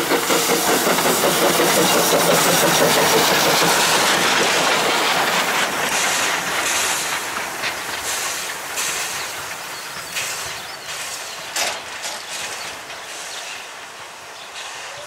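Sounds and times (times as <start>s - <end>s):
wheels clicking over rail joints: 0.0s - 13.7s
steam train running: 0.0s - 15.0s.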